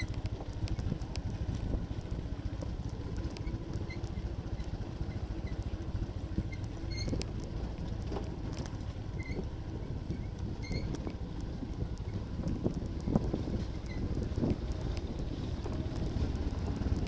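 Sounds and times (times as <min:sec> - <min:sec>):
small rattles and knocks: 0:00.0 - 0:17.0
vehicle rumbling on gravel: 0:00.0 - 0:17.0.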